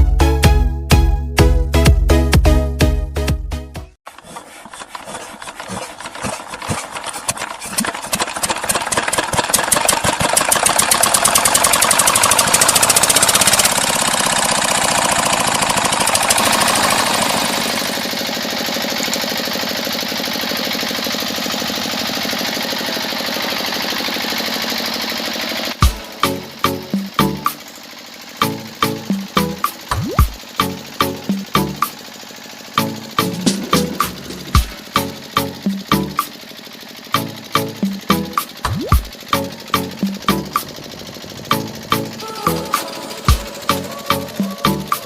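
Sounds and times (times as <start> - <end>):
engine running with knocking beat: 0.0 - 45.0.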